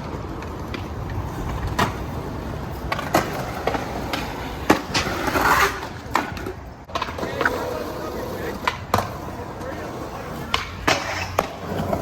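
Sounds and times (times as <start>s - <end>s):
skateboard clacking: 0.0s - 12.0s
skateboard wheels rolling: 0.0s - 12.0s.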